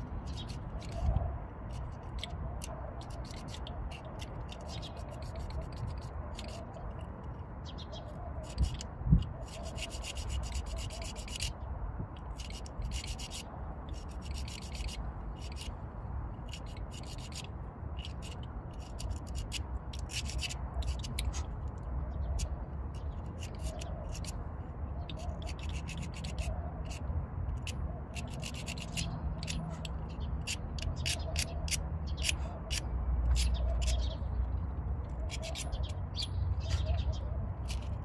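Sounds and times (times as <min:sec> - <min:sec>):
metal tools scraping and clicking: 0:00.2 - 0:07.4, 0:08.4 - 0:11.6, 0:12.2 - 0:21.8, 0:22.4 - 0:24.4, 0:25.0 - 0:38.0.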